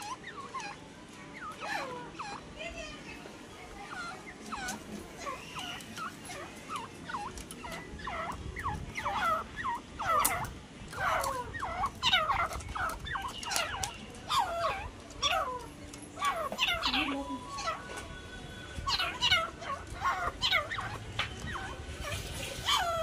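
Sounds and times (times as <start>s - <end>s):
francolins calling: 0.0s - 23.0s.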